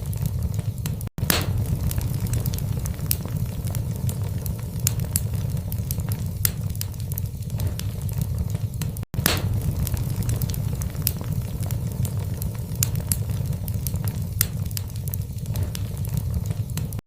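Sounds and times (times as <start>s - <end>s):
fire low rumble: 0.0s - 17.0s
logs crackling and popping: 0.0s - 17.0s.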